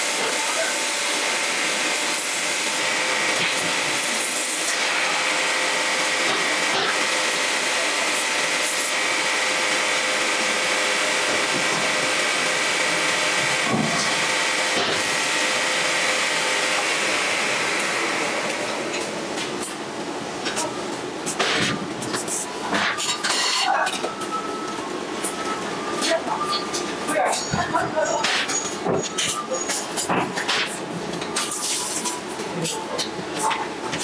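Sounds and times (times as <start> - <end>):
workshop machinery hiss and hum: 0.0 - 34.0.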